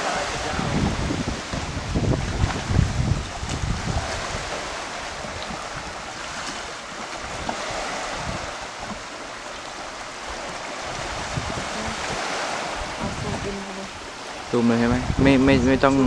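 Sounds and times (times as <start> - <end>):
sea water lapping: 0.0 - 16.0
wind buffeting microphone: 0.0 - 16.0.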